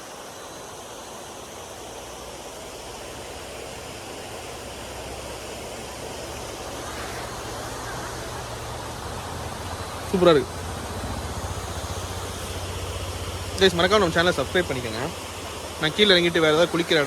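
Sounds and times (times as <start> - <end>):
small waterfall rushing: 0.0 - 17.0.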